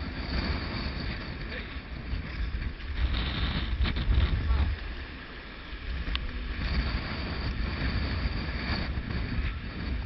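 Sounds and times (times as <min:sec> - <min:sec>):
water streaming past hull: 0:00.0 - 0:10.0
wind buffeting microphone: 0:00.0 - 0:10.0.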